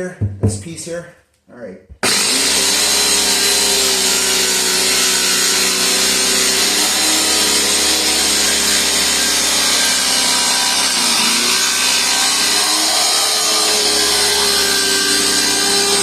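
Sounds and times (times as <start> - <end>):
power saw cutting plywood: 2.0 - 16.0.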